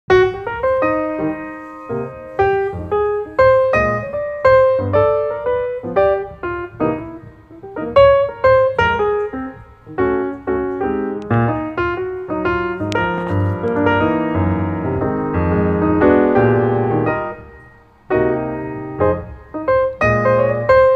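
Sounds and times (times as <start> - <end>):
gentle solo piano melody: 0.1 - 20.9.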